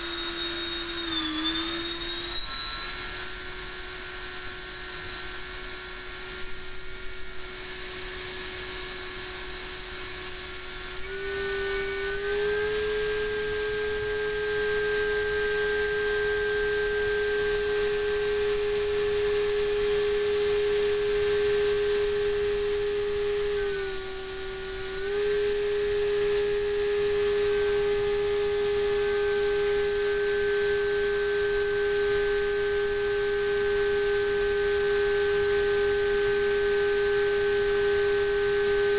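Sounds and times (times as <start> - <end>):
ducted fan whining: 0.0 - 38.9.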